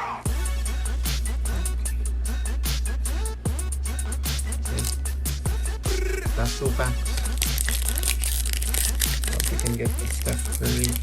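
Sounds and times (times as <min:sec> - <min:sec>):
hip hop beat: 0:00.3 - 0:11.0.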